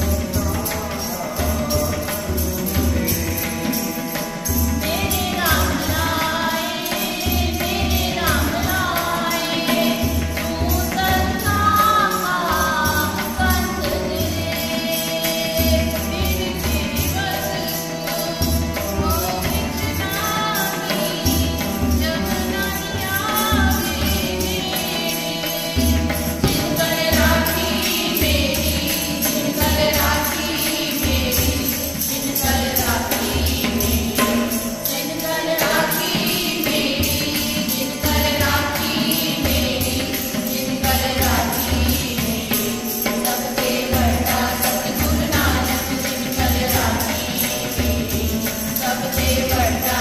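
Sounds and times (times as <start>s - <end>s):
harmonium chords: 0.0s - 50.0s
jingling hand percussion: 0.0s - 50.0s
tabla drums: 0.0s - 50.0s
women singing in unison: 0.0s - 50.0s.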